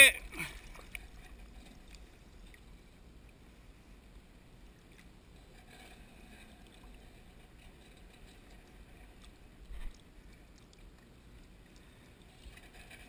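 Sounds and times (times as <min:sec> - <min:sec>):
water sounds: 0:00.0 - 0:13.0.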